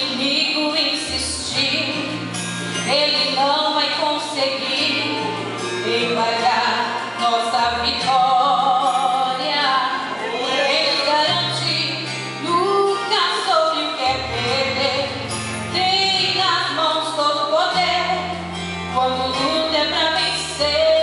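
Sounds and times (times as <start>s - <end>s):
woman singing gospel song: 0.0s - 21.0s.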